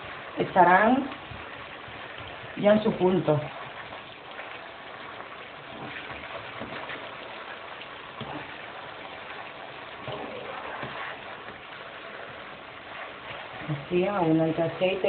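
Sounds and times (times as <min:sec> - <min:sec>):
potatoes sizzling in hot oil: 0:00.0 - 0:15.0.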